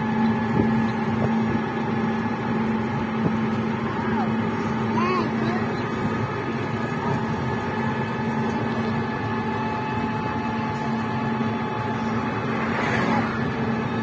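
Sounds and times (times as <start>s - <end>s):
road noise: 0.0s - 14.0s
vehicle running hum: 0.0s - 14.0s.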